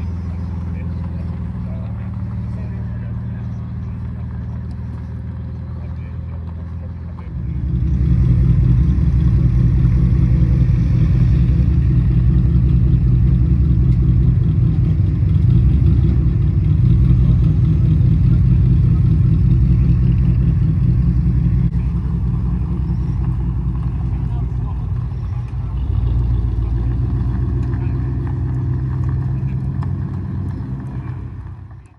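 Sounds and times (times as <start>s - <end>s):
car engine droning: 0.0s - 31.9s.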